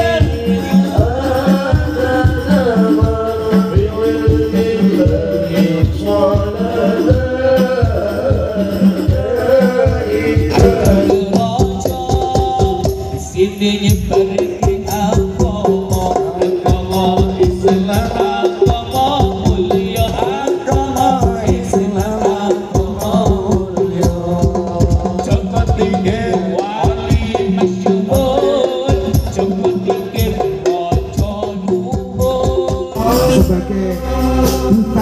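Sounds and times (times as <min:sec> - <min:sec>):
chant-like singing: 0:00.0 - 0:12.8, 0:14.3 - 0:35.0
hand drum beat: 0:00.0 - 0:33.8.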